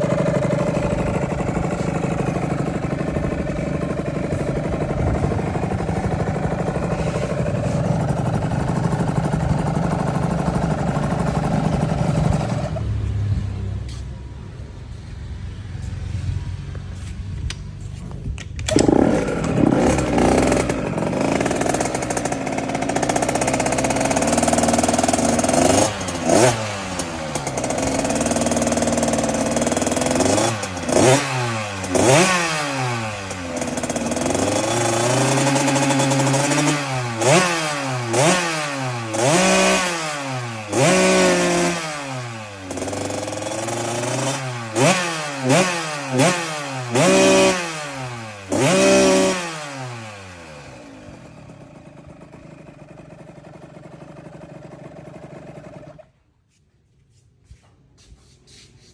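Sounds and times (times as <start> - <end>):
two-stroke engine revving: 0.0 - 13.2, 18.7 - 56.2.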